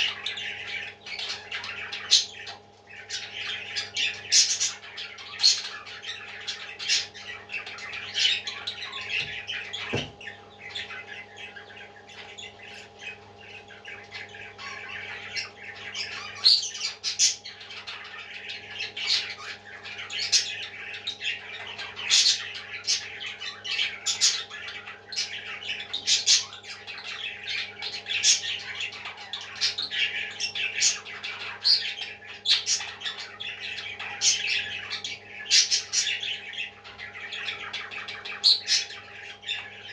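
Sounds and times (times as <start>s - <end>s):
parrot chicks squawking: 0.0s - 39.9s.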